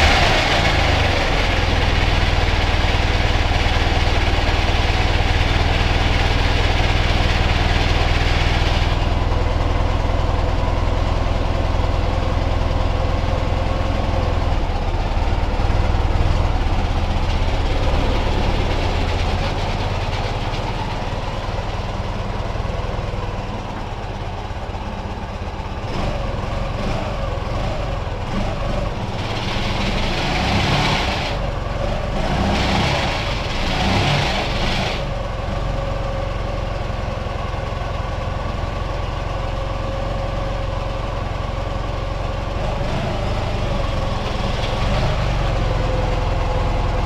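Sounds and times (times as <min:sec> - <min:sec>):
motorcycle engine running: 0:00.0 - 0:33.7, 0:34.4 - 0:47.0.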